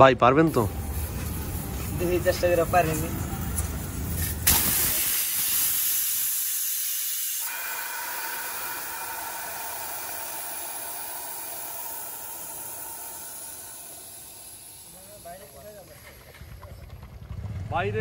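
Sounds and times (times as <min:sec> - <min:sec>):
air hissing out of a tyre: 0:00.5 - 0:16.5.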